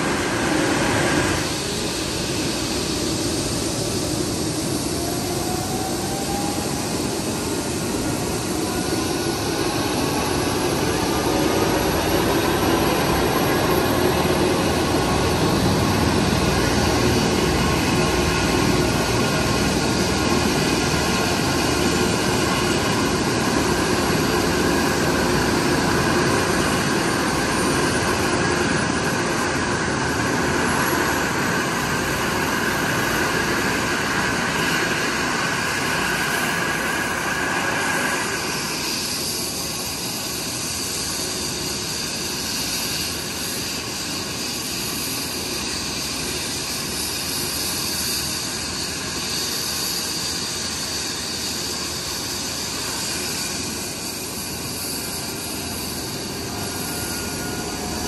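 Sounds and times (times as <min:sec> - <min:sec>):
dense rushing noise: 0:00.0 - 0:58.0
helicopter turbine whine: 0:00.0 - 0:58.0.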